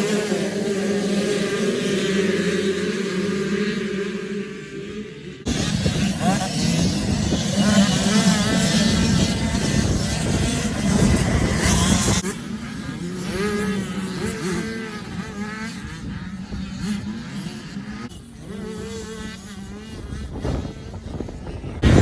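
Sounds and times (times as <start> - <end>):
motocross bikes revving: 0.0 - 22.0.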